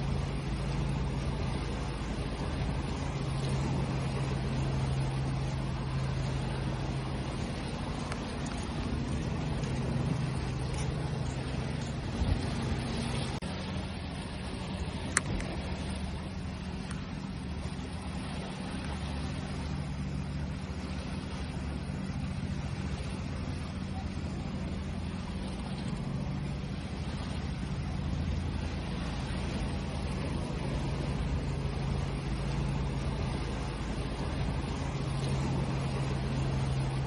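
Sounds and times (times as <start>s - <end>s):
constant wash of noise: 0.0s - 37.0s
low engine hum: 0.0s - 37.0s.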